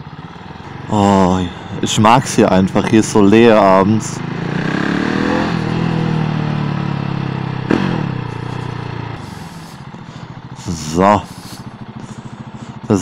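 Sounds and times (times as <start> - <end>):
motorcycle engine: 0.0 - 13.0.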